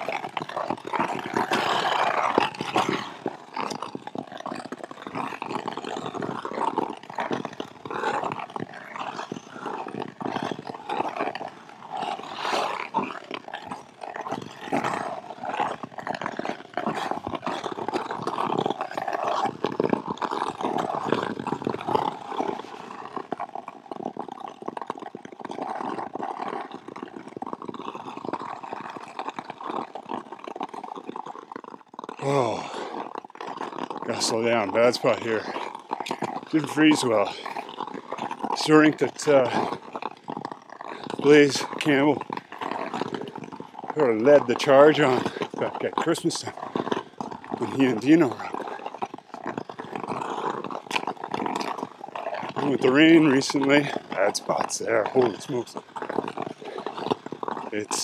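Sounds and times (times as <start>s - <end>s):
ice skates scraping on ice: 0.0s - 58.0s.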